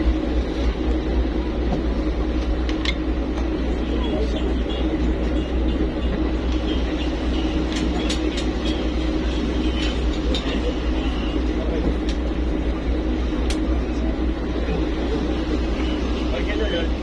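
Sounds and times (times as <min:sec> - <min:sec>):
ferry engine drone: 0:00.0 - 0:17.0.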